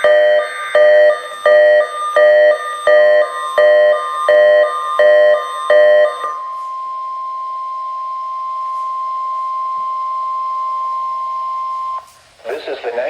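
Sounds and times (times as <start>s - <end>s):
steady warning alarm tone: 0.0s - 12.2s.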